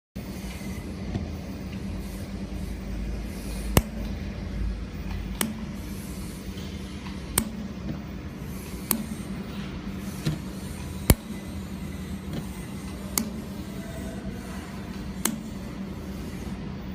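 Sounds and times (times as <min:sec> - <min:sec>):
welding machine hum: 0:00.2 - 0:16.9.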